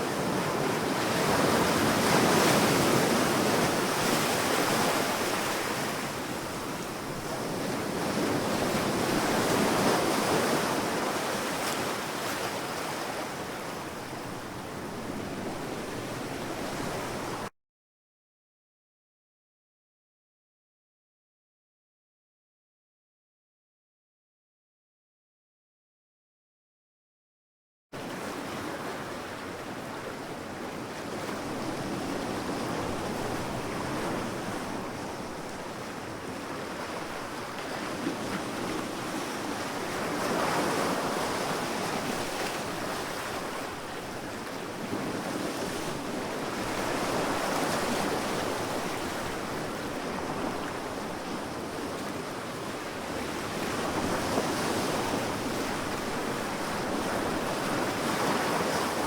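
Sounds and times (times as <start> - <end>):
sea waves breaking on beach: 0.0 - 17.5, 28.0 - 59.0.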